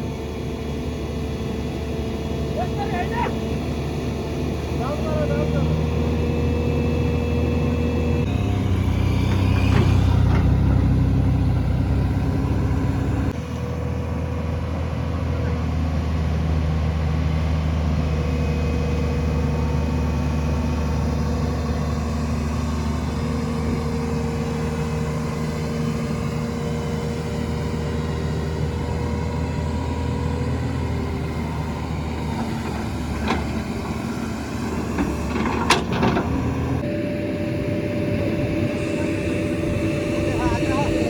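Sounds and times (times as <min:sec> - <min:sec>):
heavy machinery engine running: 0:00.0 - 0:41.0.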